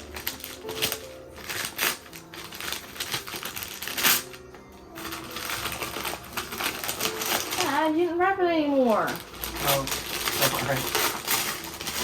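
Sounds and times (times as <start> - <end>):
packaging paper crinkling: 0.0 - 12.0
soft background music: 0.0 - 12.0.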